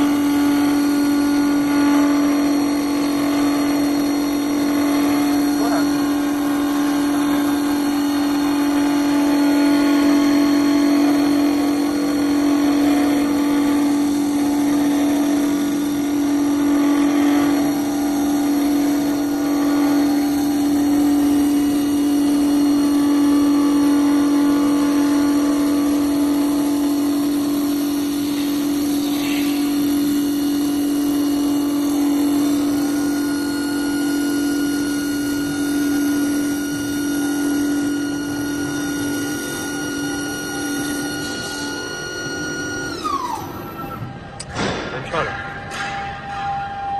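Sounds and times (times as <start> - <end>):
cutting tool shaving wood: 0.0 - 43.7
wood lathe hum: 0.0 - 44.4.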